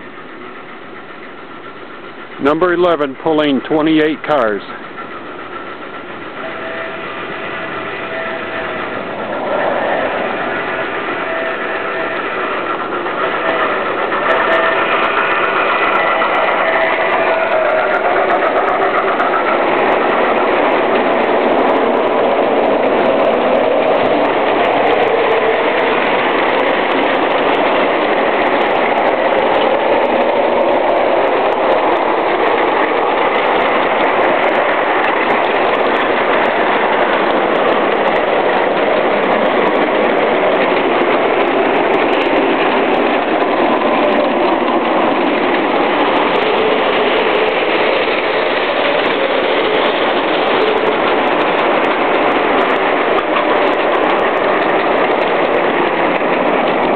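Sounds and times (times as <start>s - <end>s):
train wheels rolling on track: 0.0s - 56.9s.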